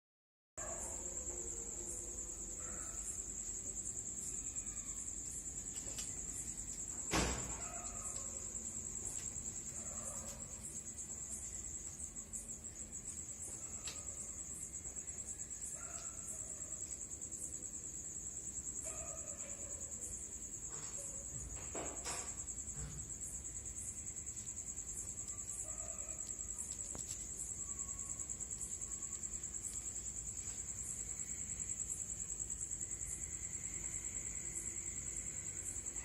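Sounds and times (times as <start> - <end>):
night insects trilling: 0.6 - 36.0.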